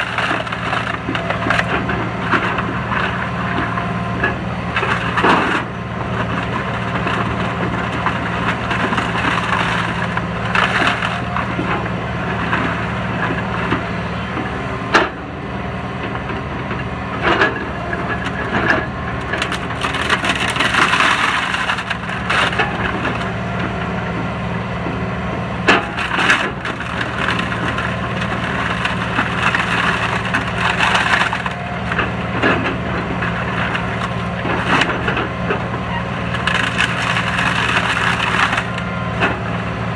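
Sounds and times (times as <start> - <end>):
wood cracking and splintering: 0.0 - 15.2, 15.8 - 39.9
excavator engine running: 0.0 - 39.9.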